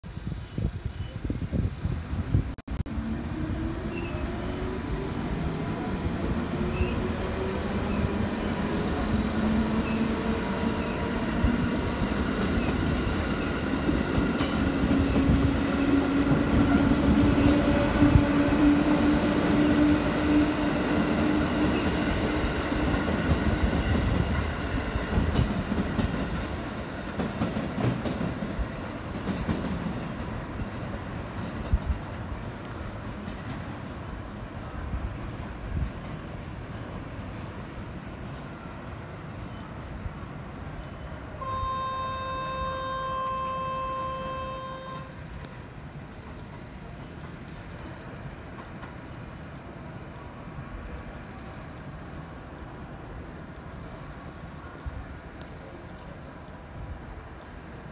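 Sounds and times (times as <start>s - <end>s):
train wheels rumbling and clattering: 0.2s - 41.2s, 44.9s - 57.9s.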